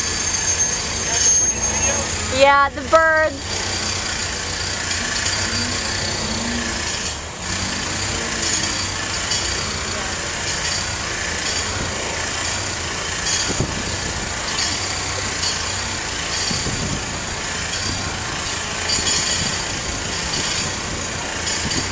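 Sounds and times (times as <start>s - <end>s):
hiss of traffic: 0.0s - 21.9s
vehicle engine idling: 0.0s - 21.9s.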